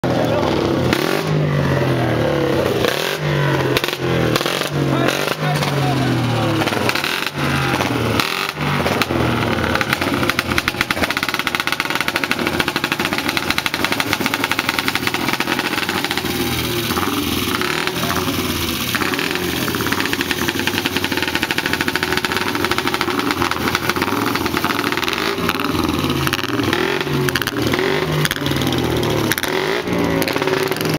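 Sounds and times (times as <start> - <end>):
motorcycle engines running: 0.0 - 30.9.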